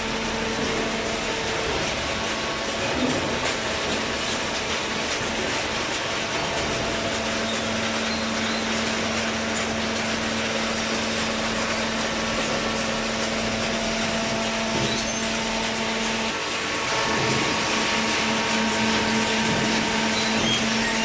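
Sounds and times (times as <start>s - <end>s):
hydraulic baler rushing: 0.0s - 21.0s
low machine hum: 0.0s - 21.0s.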